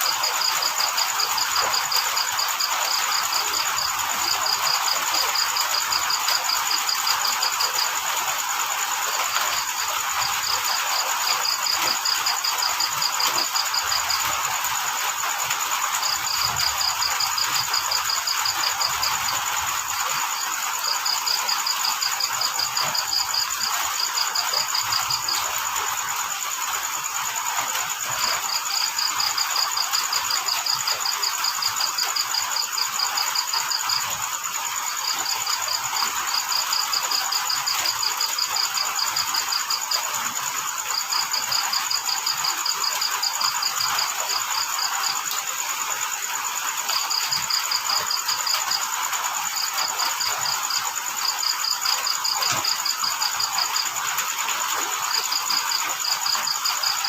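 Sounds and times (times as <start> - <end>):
crickets chirping: 0.0 - 57.0
high insect drone: 0.0 - 57.0
steady hiss: 0.0 - 57.0.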